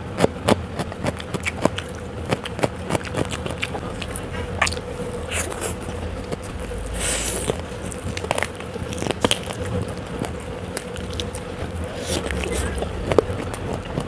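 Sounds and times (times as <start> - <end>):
biting chewing and crunching: 0.0 - 14.0
faint steady hum: 0.0 - 14.0.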